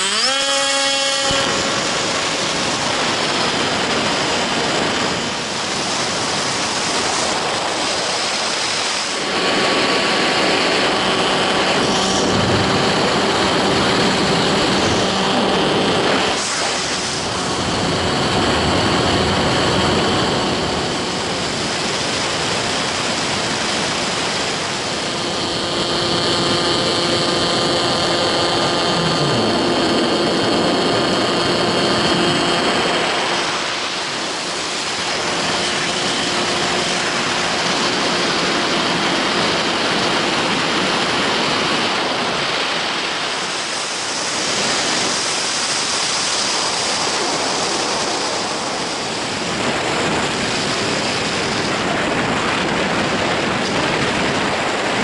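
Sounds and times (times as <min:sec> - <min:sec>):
electric motor and propeller whine: 0:00.0 - 0:55.0
wind rushing over microphone: 0:00.0 - 0:55.0.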